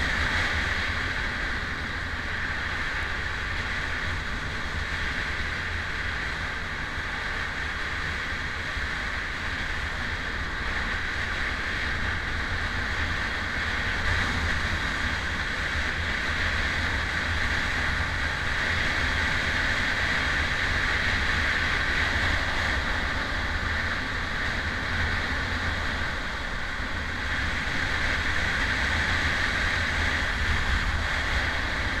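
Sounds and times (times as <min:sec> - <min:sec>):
motorcycle road noise: 0:00.0 - 0:32.0
wind rush: 0:00.0 - 0:32.0.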